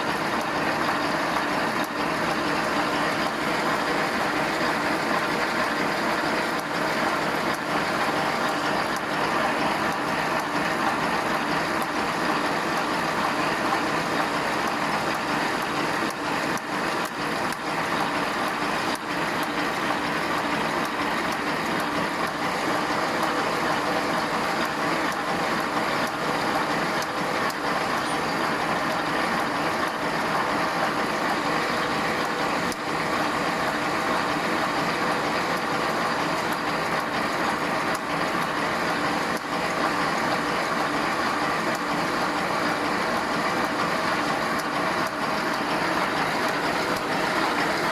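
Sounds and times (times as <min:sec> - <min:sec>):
welding machine running: 0:00.0 - 0:47.9.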